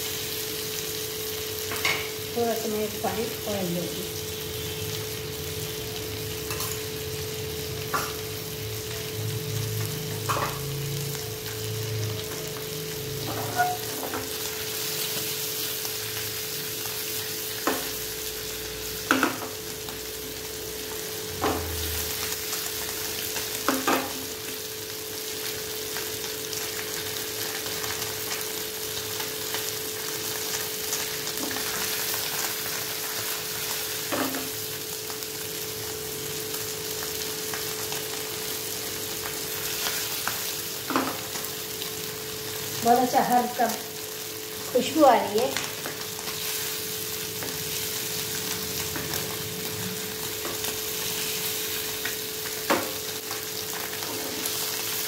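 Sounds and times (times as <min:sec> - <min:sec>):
fish sizzling in a pan: 0:00.0 - 0:55.0.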